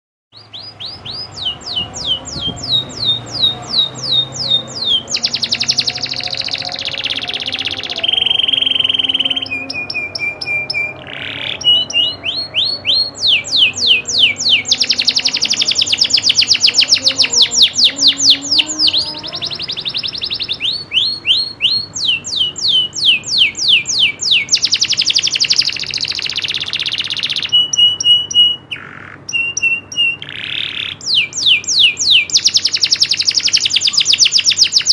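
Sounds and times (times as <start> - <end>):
canary singing: 0.3 - 34.9.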